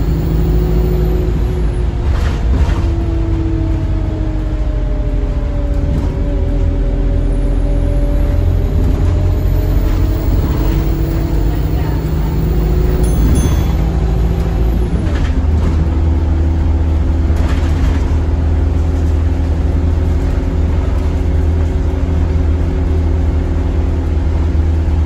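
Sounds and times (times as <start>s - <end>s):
bus diesel engine rumble: 0.0s - 25.0s.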